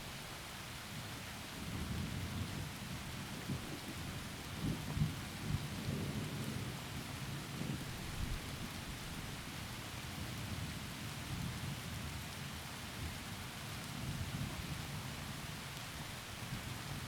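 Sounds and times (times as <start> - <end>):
heavy rain through trees: 0.0 - 17.0.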